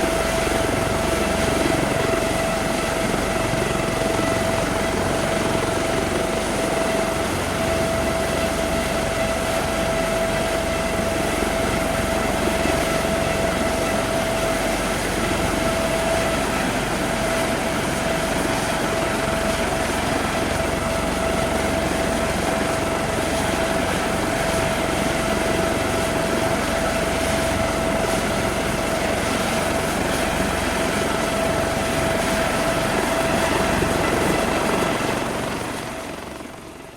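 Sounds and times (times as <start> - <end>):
helicopter idling: 0.0 - 36.9.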